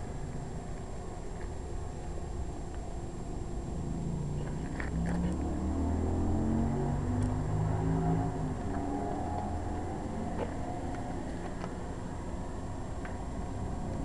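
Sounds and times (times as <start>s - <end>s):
engine running nearby: 0.0s - 14.0s.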